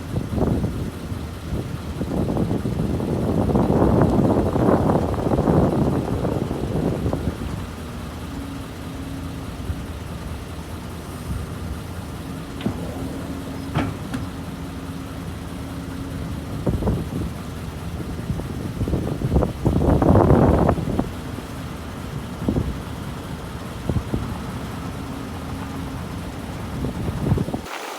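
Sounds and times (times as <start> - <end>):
heavy diesel engine idling: 0.0 - 27.6.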